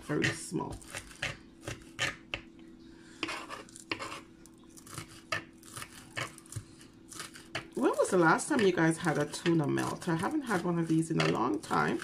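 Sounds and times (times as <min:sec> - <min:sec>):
faint steady hum: 0:00.0 - 0:12.0
knife chopping on plastic board: 0:00.2 - 0:02.5, 0:03.2 - 0:04.2, 0:04.8 - 0:12.0.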